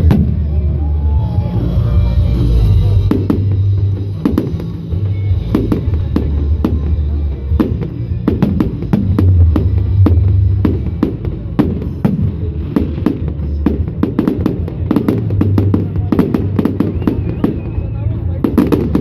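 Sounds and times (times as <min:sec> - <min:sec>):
fireworks bangs: 0:00.0 - 0:00.7, 0:02.2 - 0:19.0
loud music with heavy bass: 0:00.0 - 0:19.0.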